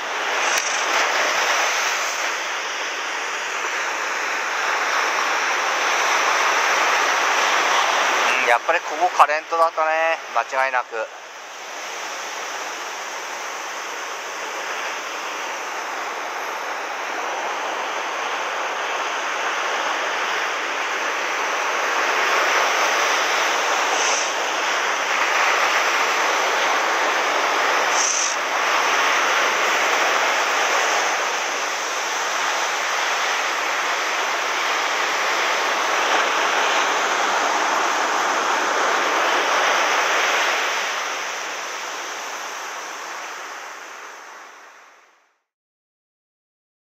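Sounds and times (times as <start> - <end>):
ocean surf breaking: 0.0 - 44.8.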